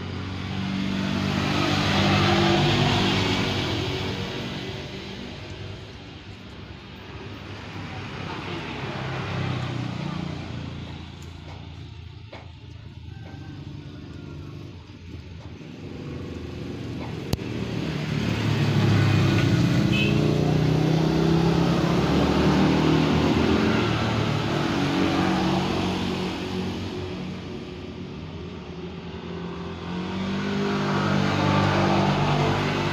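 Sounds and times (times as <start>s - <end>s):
vehicle engine: 0.0s - 32.9s.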